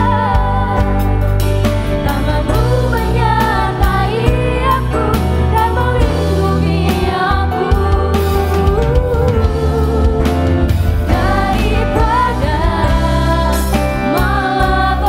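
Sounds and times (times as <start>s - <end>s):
band with bass and drums: 0.0s - 15.0s.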